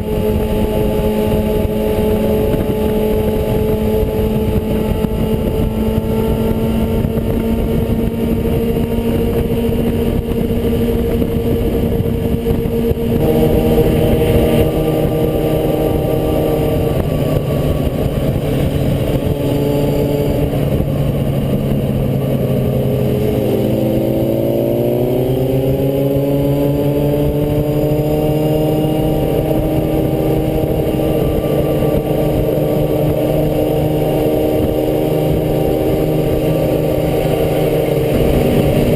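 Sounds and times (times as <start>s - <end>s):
motorcycle engines running: 0.0s - 38.9s.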